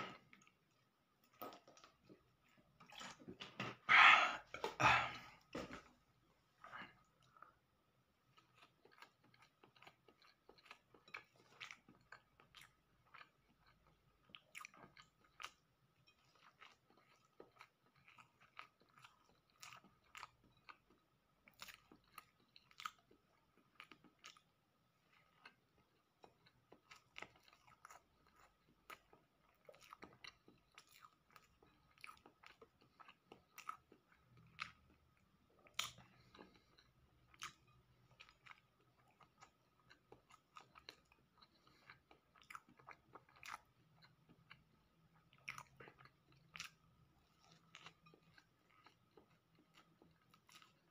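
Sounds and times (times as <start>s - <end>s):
chewing and biting pastry: 6.7s - 50.9s.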